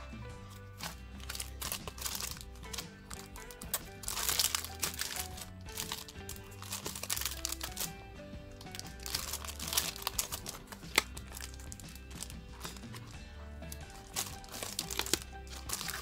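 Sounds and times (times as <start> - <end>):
background music: 0.0 - 16.0
plastic sheets crinkling: 0.6 - 16.0.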